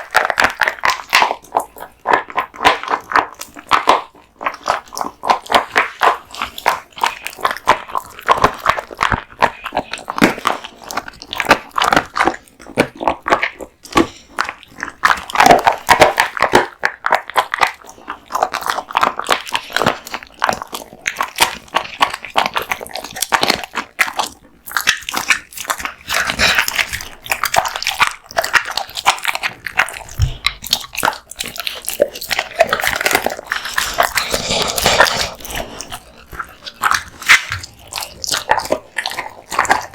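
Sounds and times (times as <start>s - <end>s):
bone crunches: 0.0s - 39.9s
dog chewing meat: 0.0s - 39.9s.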